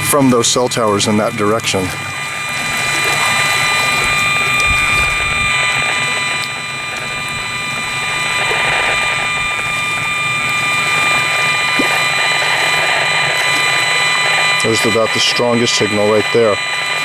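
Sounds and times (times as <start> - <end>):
high steady tones: 0.0 - 17.0
rattling buzz from loudspeaker: 0.0 - 17.0.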